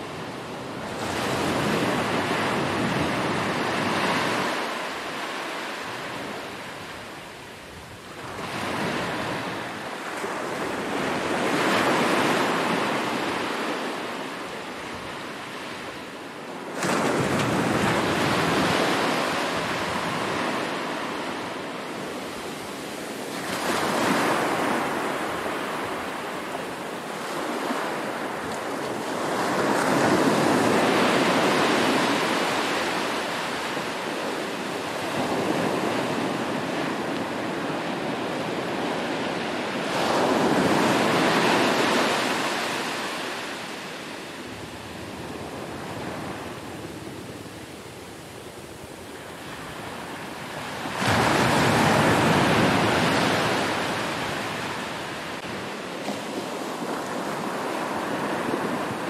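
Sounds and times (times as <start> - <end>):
small waves breaking on sand: 8.0 - 59.0.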